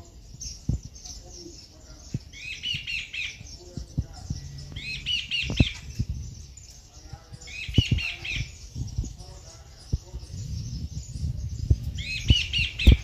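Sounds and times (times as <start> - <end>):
birds chattering harsh notes: 0.0 - 13.0.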